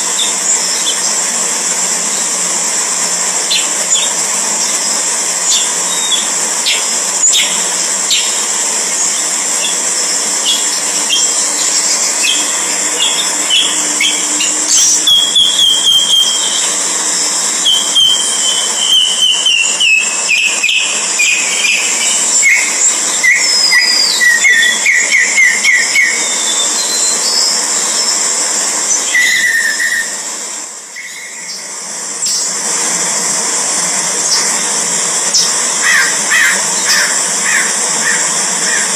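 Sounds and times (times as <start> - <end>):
steady high hiss: 0.0 - 38.9.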